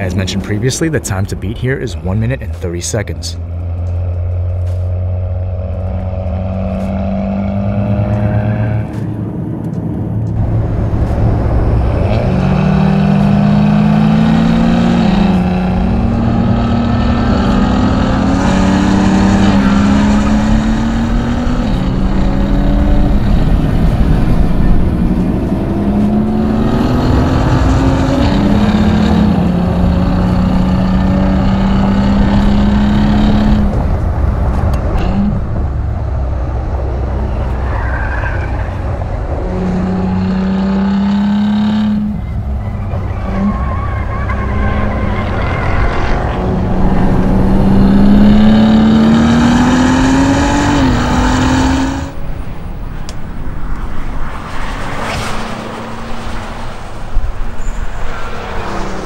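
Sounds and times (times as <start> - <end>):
car engine accelerating and upshifting: 1.7 - 59.0.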